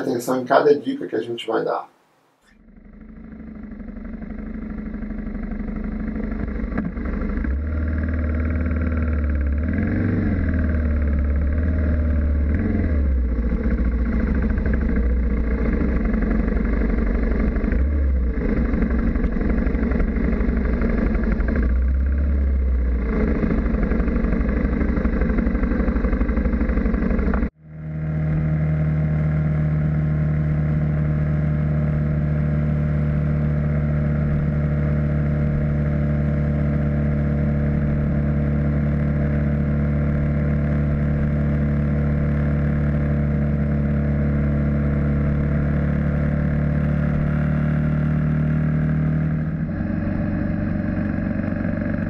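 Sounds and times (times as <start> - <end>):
motorcycle engine running: 2.4 - 52.0
road and wind rush: 3.1 - 52.0.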